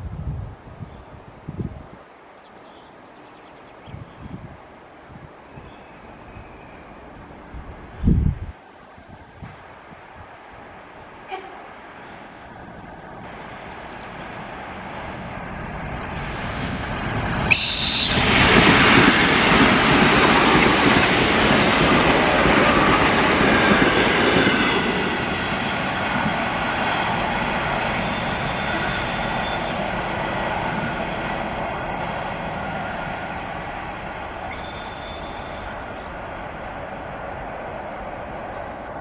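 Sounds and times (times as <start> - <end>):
electric train passing at speed: 4.9 - 39.0.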